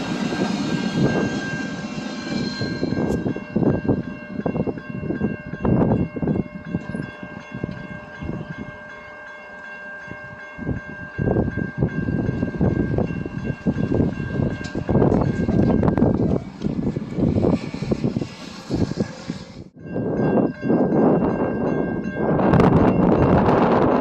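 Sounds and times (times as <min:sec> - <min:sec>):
train rumbling on tracks: 0:00.0 - 0:24.0.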